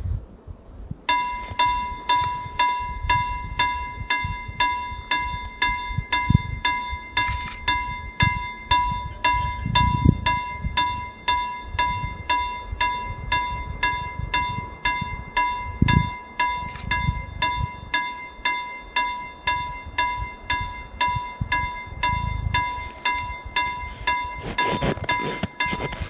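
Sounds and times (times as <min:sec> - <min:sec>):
level crossing bell ringing: 0:01.1 - 0:26.0.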